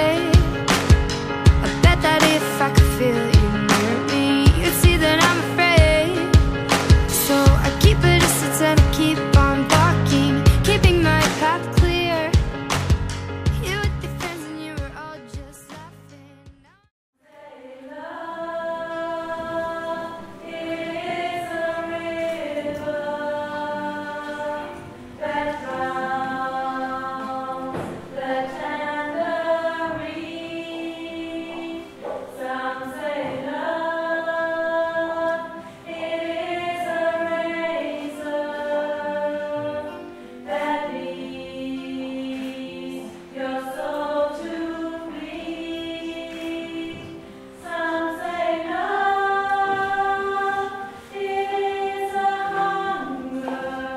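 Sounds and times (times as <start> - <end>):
choir singing a cappella: 0.0 - 12.4, 17.2 - 53.9.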